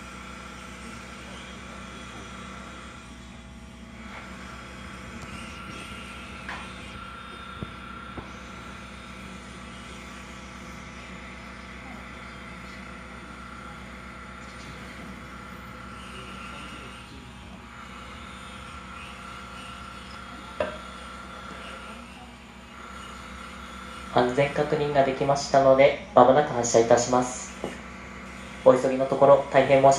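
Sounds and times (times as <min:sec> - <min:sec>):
high whine: 0:00.0 - 0:29.9
train equipment hum: 0:00.0 - 0:29.9.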